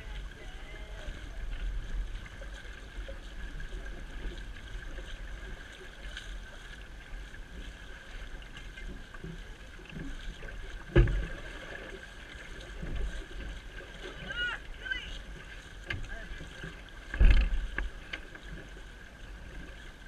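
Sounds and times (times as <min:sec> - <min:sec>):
water rushing in boat wake: 0:00.0 - 0:20.0.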